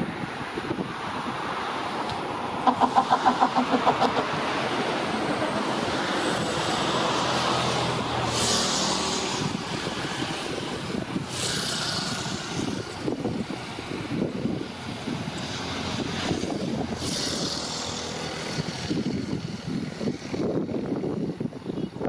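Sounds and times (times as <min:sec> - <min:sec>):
rushing engine noise: 0:00.0 - 0:22.0
wind hiss on microphone: 0:00.0 - 0:22.0.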